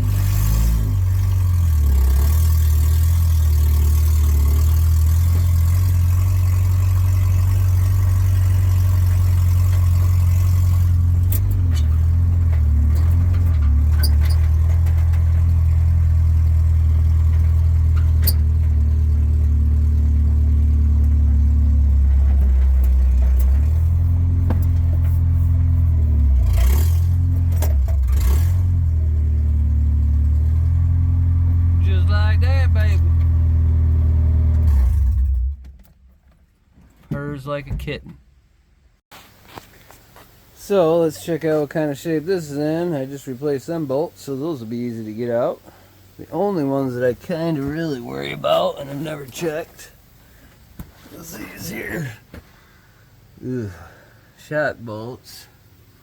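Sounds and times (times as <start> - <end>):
pickup engine running: 0.0 - 36.8, 38.4 - 56.0.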